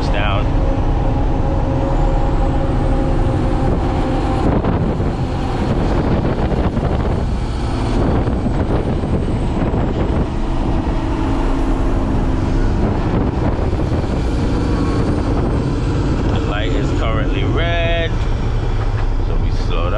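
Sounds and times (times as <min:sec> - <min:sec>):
diesel truck engine running: 0:00.0 - 0:19.9
road noise: 0:00.0 - 0:19.9
wind noise: 0:00.0 - 0:19.9.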